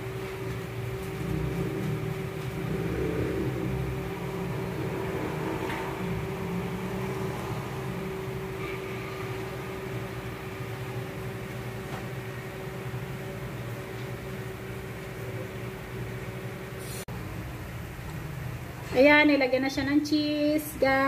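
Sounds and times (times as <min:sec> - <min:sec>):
motor humming with constant tone: 0:00.0 - 0:21.0.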